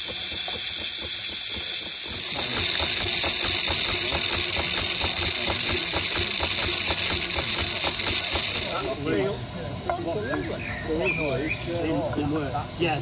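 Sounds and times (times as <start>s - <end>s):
steam engine running: 0.0s - 13.0s
steam hissing: 0.0s - 13.0s.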